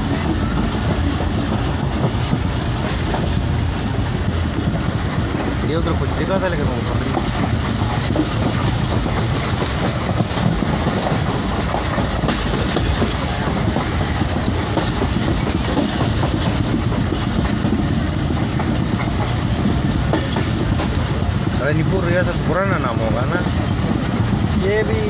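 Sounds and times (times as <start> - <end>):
train wheel-on-rail noise: 0.0 - 25.0.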